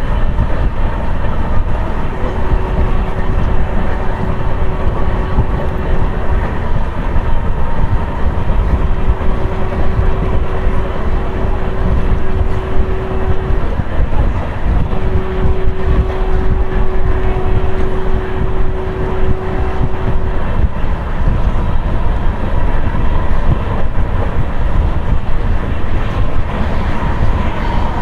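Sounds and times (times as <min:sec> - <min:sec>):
thin steady hum: 0:00.0 - 0:28.0
train rumble: 0:00.0 - 0:28.0
wind buffeting microphone: 0:00.0 - 0:28.0.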